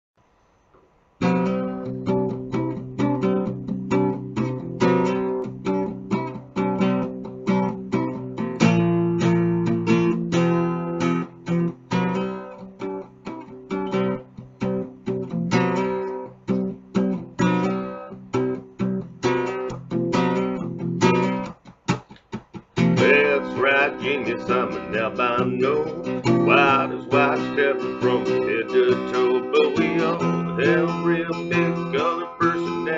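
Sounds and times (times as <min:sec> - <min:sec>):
acoustic guitar strumming: 0:01.2 - 0:32.9.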